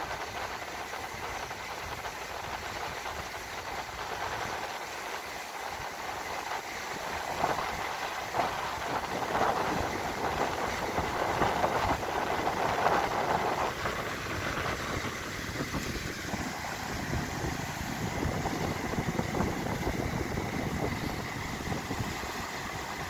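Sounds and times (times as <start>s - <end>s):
gusty wind on microphone: 0.0s - 23.0s
surf breaking on shore: 0.1s - 23.0s.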